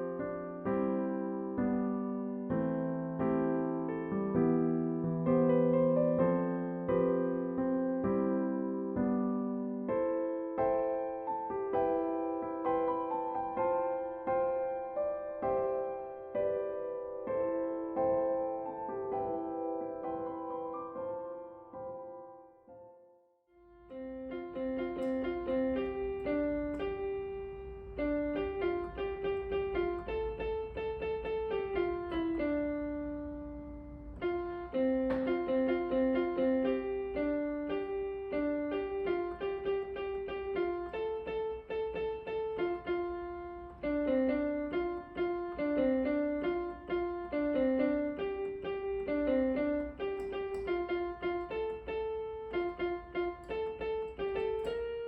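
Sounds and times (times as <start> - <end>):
gentle piano melody: 0.0 - 55.0.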